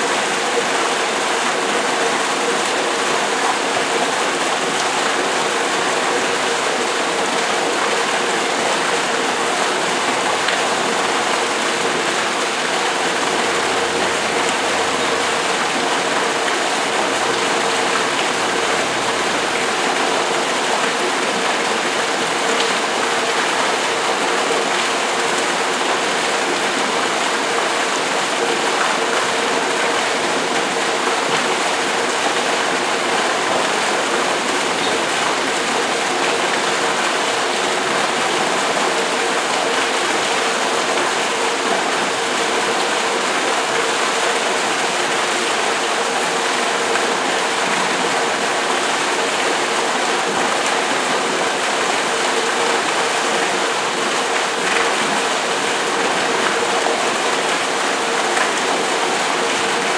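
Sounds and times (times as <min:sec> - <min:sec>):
waterfall splashing into pool: 0:00.0 - 0:59.9.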